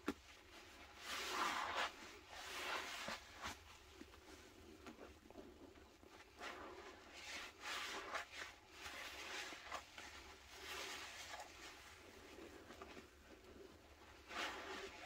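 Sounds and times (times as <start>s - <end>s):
sponges squelching in foam: 0.3s - 15.0s.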